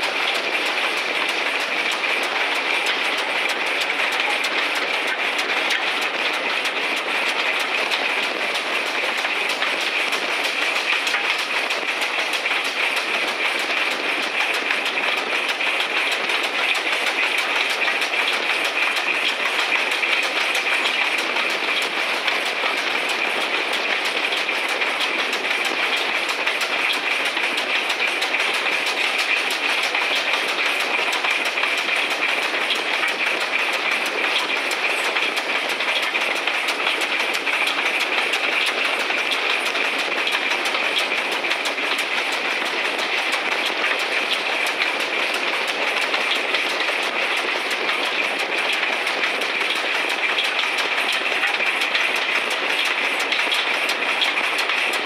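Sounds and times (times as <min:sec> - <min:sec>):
train wheels rushing on rails: 0:00.0 - 0:55.0.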